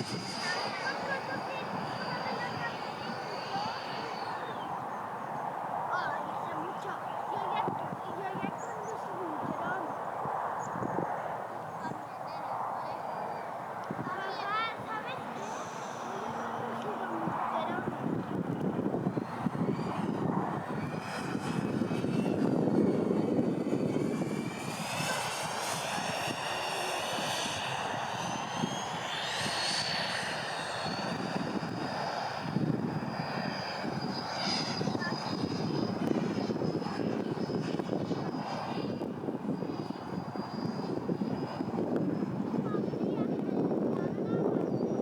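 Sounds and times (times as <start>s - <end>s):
model jet fans whining: 0.0s - 10.0s, 12.9s - 45.0s
wind rumble on microphone: 0.0s - 45.0s.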